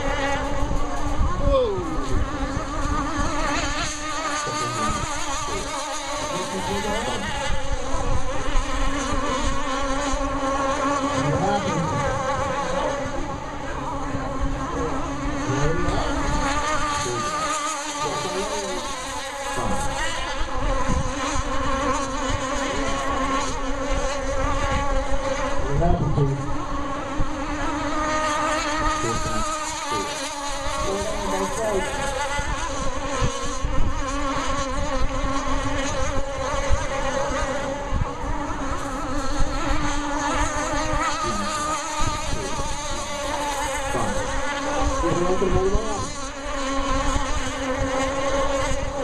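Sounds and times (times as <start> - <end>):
model boat motors buzzing: 0.0 - 49.0.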